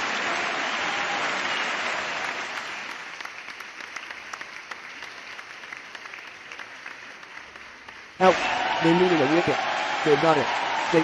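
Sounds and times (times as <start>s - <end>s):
crowd applause: 0.0s - 11.0s.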